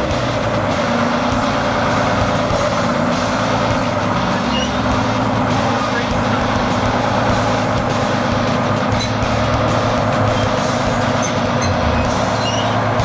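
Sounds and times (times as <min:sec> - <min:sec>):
fire truck engine running: 0:00.0 - 0:13.0.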